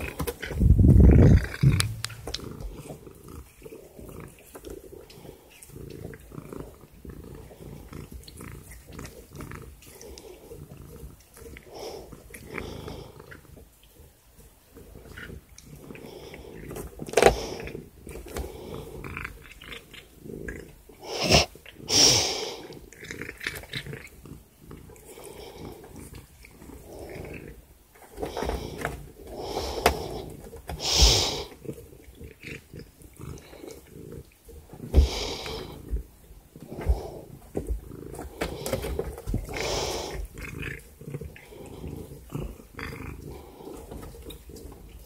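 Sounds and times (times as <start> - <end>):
cat sniffing and snuffling: 0.0 - 45.0.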